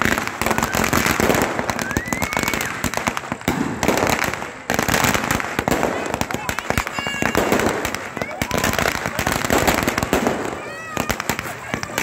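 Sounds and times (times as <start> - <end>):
firecrackers crackling bangs: 0.0 - 12.0.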